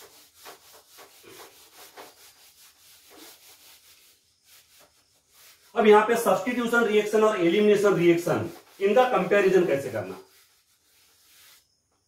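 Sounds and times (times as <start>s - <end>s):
duster wiping whiteboard: 0.0s - 12.0s.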